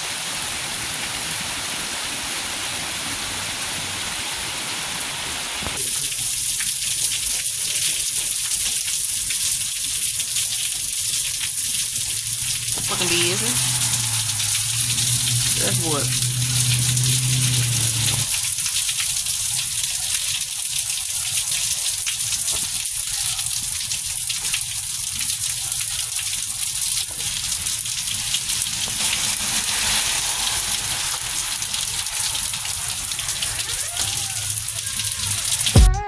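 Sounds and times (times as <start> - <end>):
rain pattering on a surface: 0.0 - 35.9.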